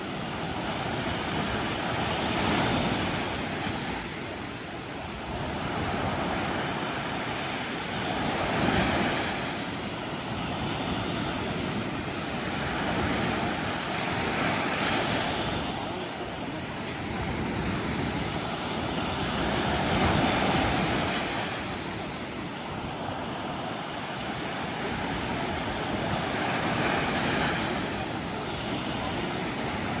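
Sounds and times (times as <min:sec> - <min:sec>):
sea waves surging: 0:00.0 - 0:30.0.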